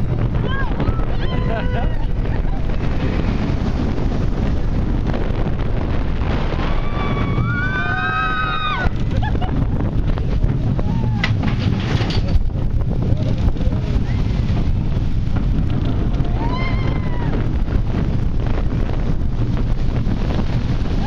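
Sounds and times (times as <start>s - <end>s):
roller coaster rumbling on track: 0.0s - 21.0s
wind rushing over microphone: 0.0s - 21.0s.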